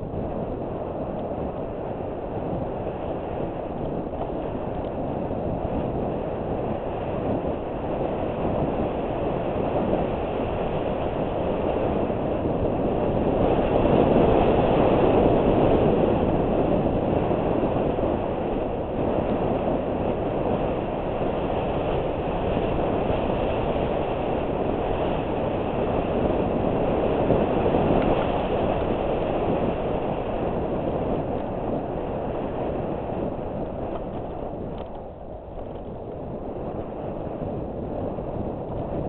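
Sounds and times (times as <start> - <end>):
bike tyres rumbling on gravel: 0.0 - 39.0
wind on camera: 0.0 - 39.0.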